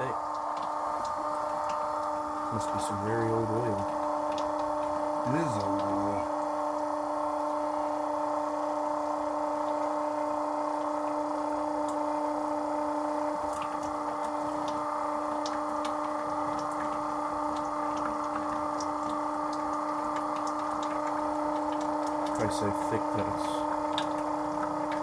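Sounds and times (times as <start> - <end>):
oil transfer pump humming: 0.0 - 25.0.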